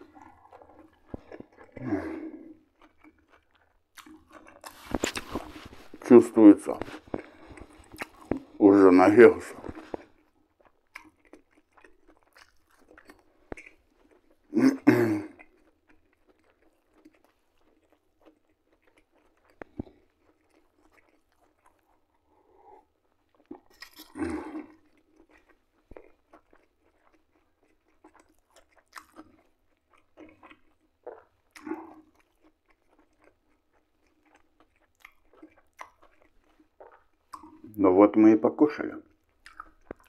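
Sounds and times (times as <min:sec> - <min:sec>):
man chewing food: 0:00.0 - 0:37.8, 0:38.8 - 0:40.0.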